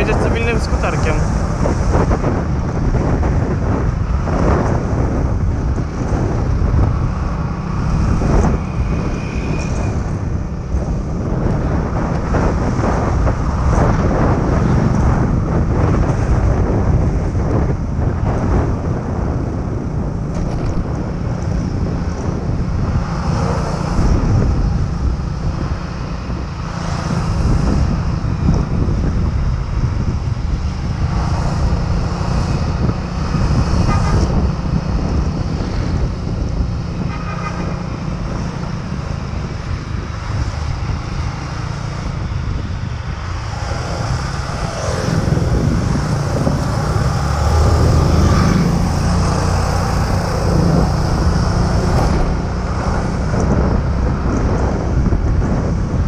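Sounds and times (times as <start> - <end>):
scooter engine and road noise: 0.0 - 56.0
wind buffeting microphone: 0.0 - 56.0.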